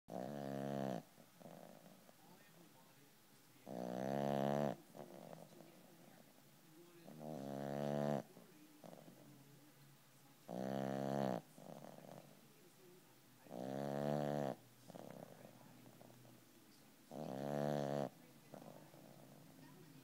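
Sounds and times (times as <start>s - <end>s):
puppy snoring: 0.1s - 2.6s, 3.6s - 9.5s, 10.4s - 12.6s, 13.4s - 20.0s.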